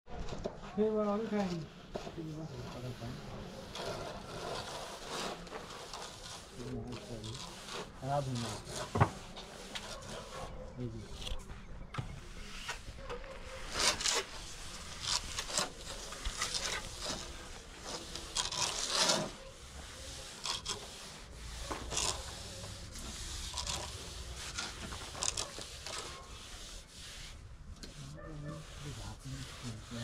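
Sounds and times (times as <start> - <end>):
hand tool scraping cement plaster: 0.4 - 30.0.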